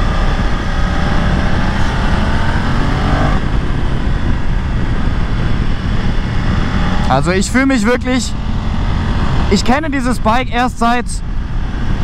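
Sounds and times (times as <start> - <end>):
motorcycle engine accelerating: 0.0 - 10.2
wind rumble on microphone: 0.0 - 12.0.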